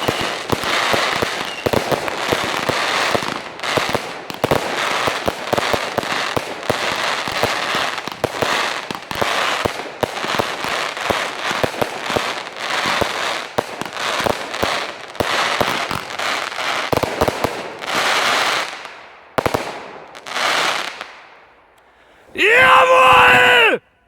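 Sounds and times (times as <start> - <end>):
fireworks crackle: 0.0 - 21.1
fireworks bangs: 0.0 - 21.2.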